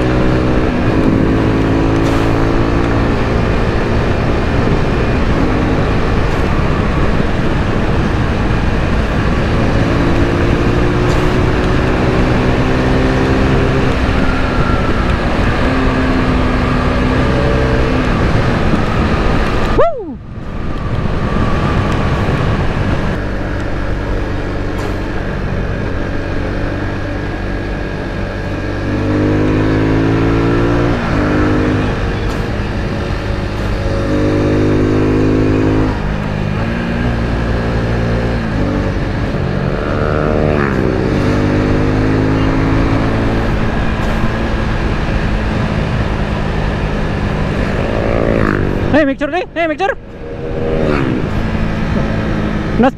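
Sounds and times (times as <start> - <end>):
motorcycle engine upshifting: 0.0 - 52.9.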